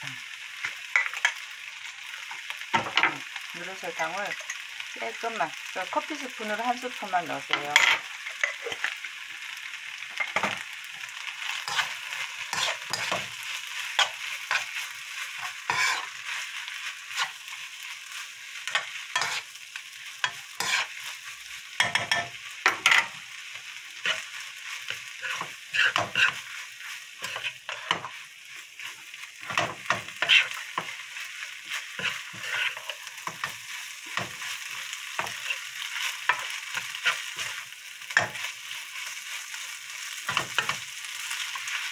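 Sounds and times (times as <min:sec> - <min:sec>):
rice sizzling in frying pan: 0:00.0 - 0:41.9
spoon scraping and knocking pan: 0:00.6 - 0:04.7, 0:07.5 - 0:09.0, 0:10.1 - 0:10.6, 0:11.4 - 0:23.2, 0:24.0 - 0:41.9.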